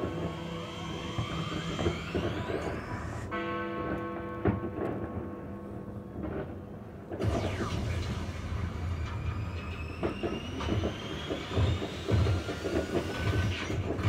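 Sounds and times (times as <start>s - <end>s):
whistling fireworks: 0.0s - 5.2s, 6.1s - 14.0s
fireworks booming and cracking: 0.0s - 14.0s.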